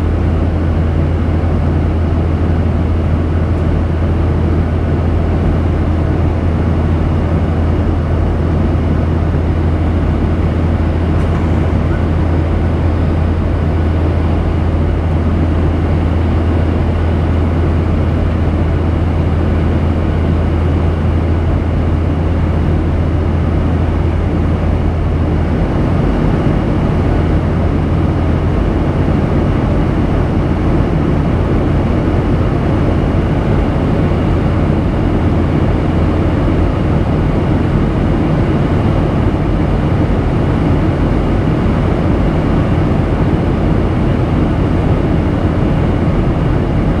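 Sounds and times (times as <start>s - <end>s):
jet engines droning: 0.0s - 47.0s.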